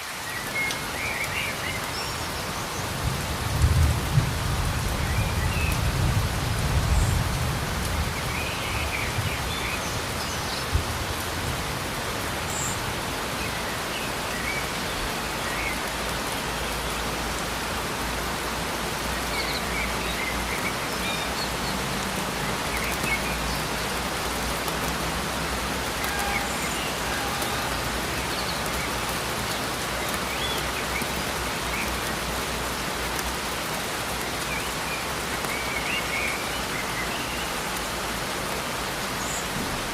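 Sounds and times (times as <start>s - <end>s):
steady rain on hard surfaces: 0.0s - 39.9s.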